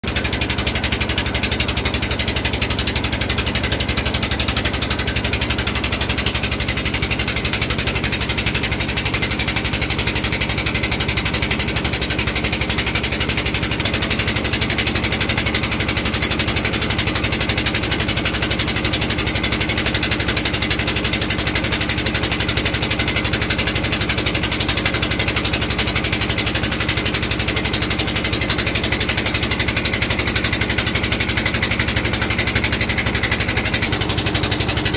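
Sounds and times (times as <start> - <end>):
boat engine chugging: 0.0 - 34.9.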